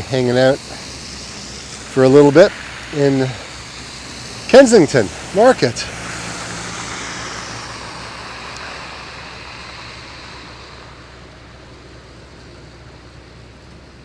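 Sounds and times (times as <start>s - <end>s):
car tyres hissing on wet road: 0.0s - 14.0s.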